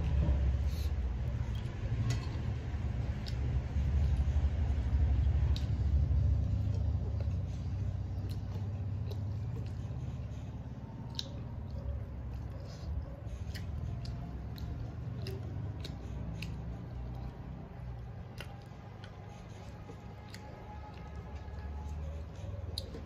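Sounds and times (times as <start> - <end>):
person chewing with wet clicks: 0.0 - 23.0
steady low rumble: 0.0 - 23.0.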